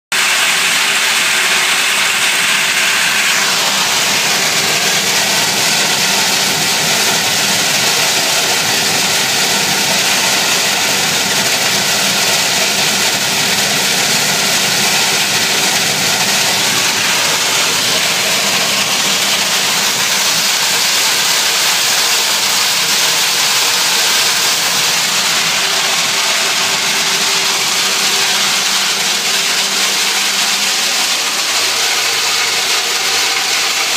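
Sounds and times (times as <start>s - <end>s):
woodchip blower running: 0.2s - 33.9s.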